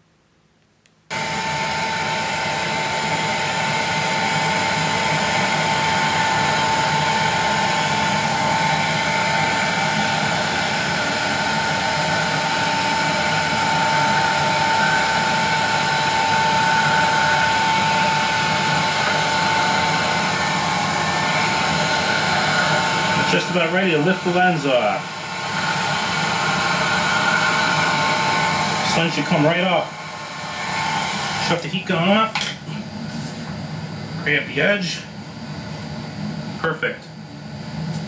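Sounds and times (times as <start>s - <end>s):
heat gun fan whining: 1.1s - 38.0s.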